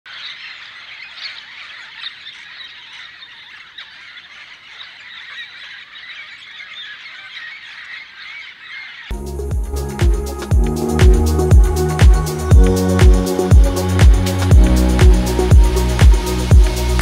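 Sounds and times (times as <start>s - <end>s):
birds chirping and chattering: 0.1s - 17.0s.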